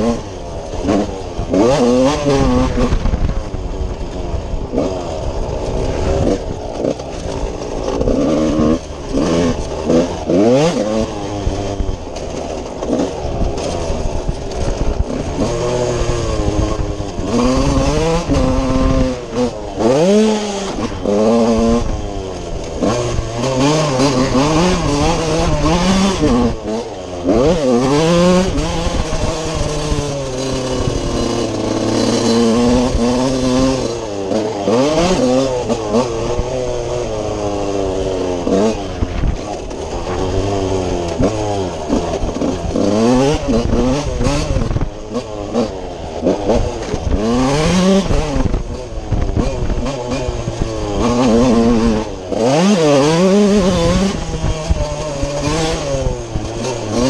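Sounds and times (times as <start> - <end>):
two-stroke motocross engine revving: 0.0 - 57.0.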